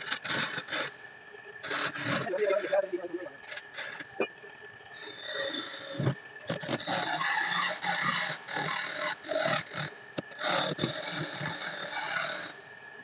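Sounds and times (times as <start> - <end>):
tool scraping spinning wood: 0.0 - 1.0, 1.6 - 4.3, 4.9 - 12.7
lathe whine: 0.0 - 13.0.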